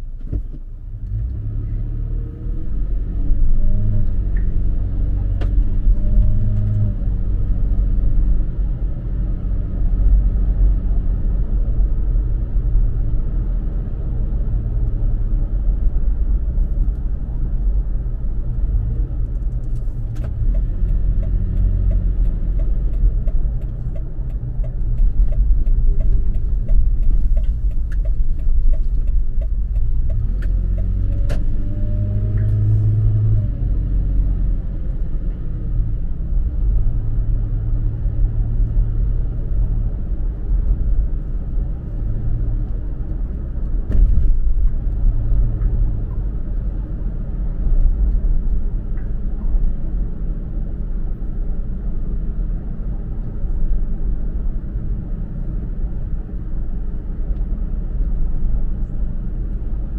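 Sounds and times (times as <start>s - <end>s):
road noise: 0.0s - 59.9s
car engine accelerating: 0.3s - 51.3s.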